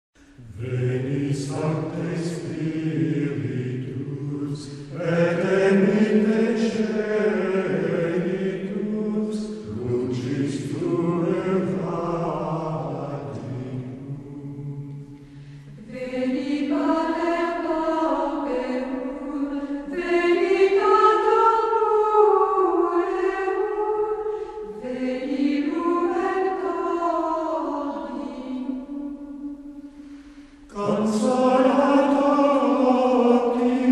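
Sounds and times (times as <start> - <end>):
choir chanting: 0.4 - 29.8, 30.7 - 33.9.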